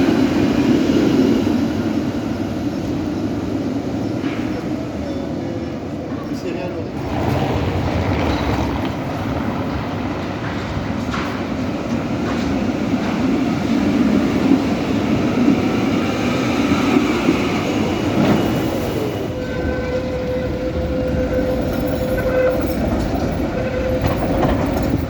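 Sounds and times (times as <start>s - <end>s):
tram rumbling on rails: 0.0s - 25.0s.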